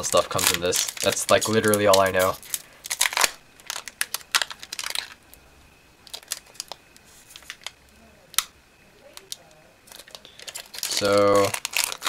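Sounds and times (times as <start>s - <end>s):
foil wrapper crinkling: 0.0s - 5.4s, 6.0s - 7.8s, 8.4s - 12.0s.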